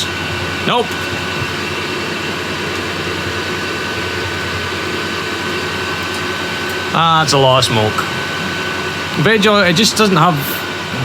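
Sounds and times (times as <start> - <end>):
blower fan whining: 0.0 - 11.0.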